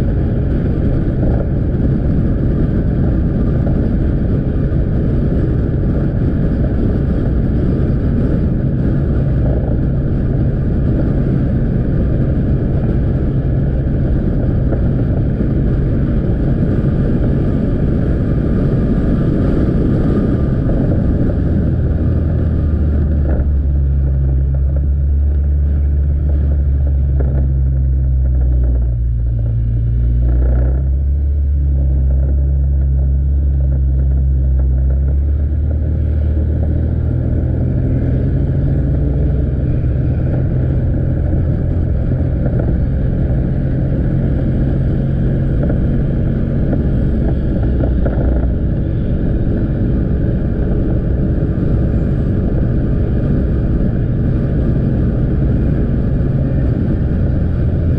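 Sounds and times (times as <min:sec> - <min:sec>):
motorcycle engine humming: 0:00.0 - 0:57.9
wind rushing on microphone: 0:00.0 - 0:57.9.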